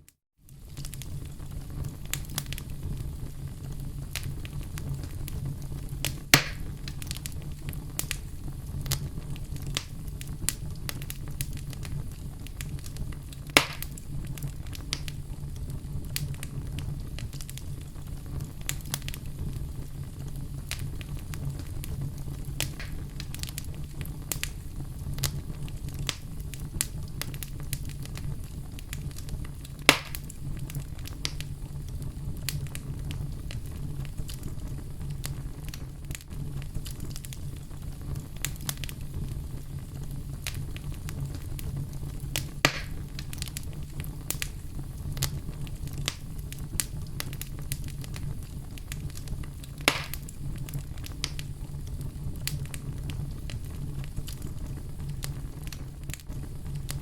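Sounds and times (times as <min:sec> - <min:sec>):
fire crackling: 0:00.0 - 0:57.0
fire pops: 0:00.1 - 0:57.0
campfire rumbling: 0:00.4 - 0:57.0.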